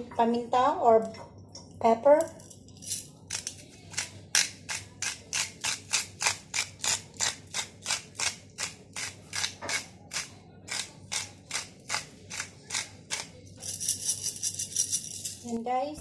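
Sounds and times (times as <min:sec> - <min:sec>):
pepper mill grinding: 0:02.2 - 0:15.6.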